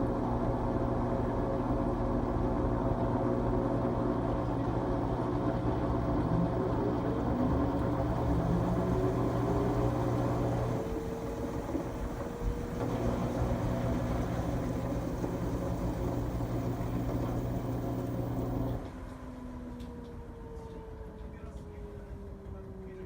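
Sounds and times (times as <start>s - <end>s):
washing machine motor humming: 0.0s - 18.8s.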